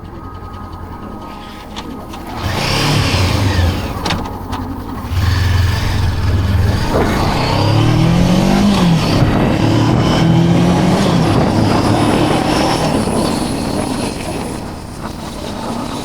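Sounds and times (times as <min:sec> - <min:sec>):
motorcycle engine running: 0:00.0 - 0:14.8
wind and road noise: 0:00.0 - 0:16.0.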